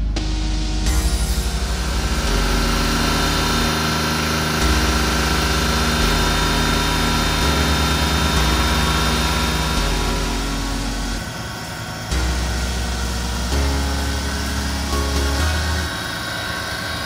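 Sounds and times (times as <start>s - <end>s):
car engine exhaust idling: 0.0s - 17.0s.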